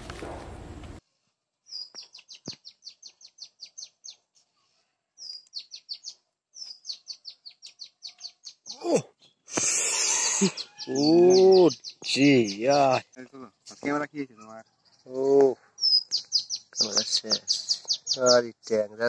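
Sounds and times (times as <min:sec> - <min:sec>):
small bird singing: 0:01.6 - 0:19.0.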